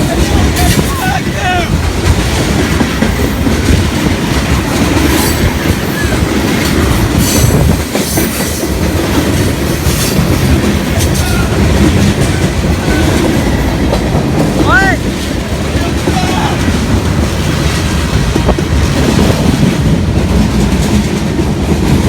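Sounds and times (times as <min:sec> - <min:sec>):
freight train rumbling past: 0:00.0 - 0:22.0
wheels clacking over rail joints: 0:00.0 - 0:22.0.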